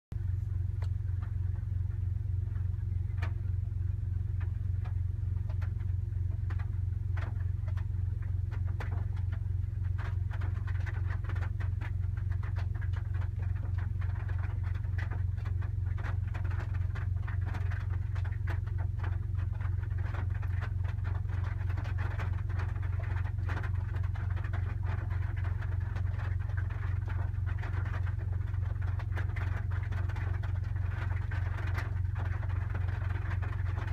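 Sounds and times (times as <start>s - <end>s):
low hum: 0.1s - 33.9s
raindrops on car roof: 0.2s - 33.9s.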